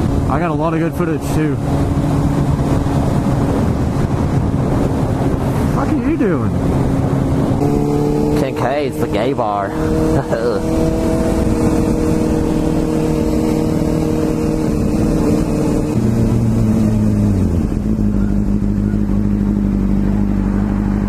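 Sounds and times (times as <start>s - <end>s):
motorbike engine running: 0.0s - 21.0s.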